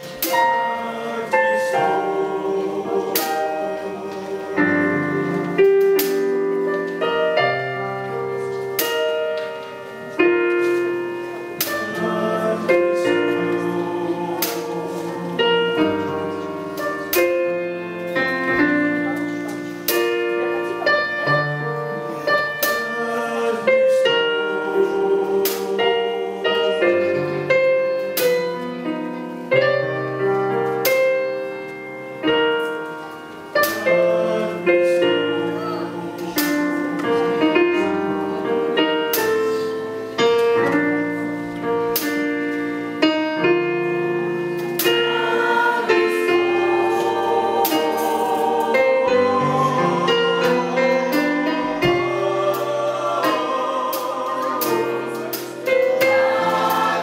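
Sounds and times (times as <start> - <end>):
slow piano notes and chords: 0.0 - 57.0
small choir singing: 0.0 - 57.0.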